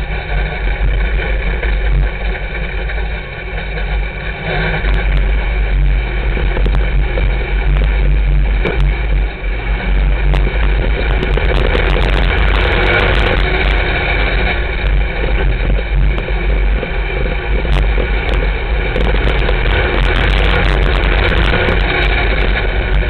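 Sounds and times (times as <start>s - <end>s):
race car engine running hard: 0.0s - 23.0s.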